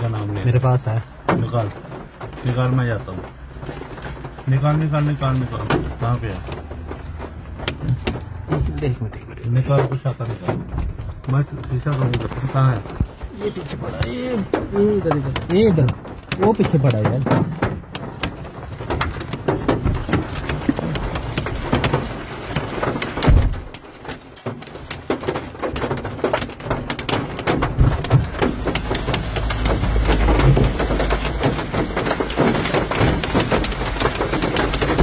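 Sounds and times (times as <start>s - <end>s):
rain pattering on a car: 0.0s - 35.0s.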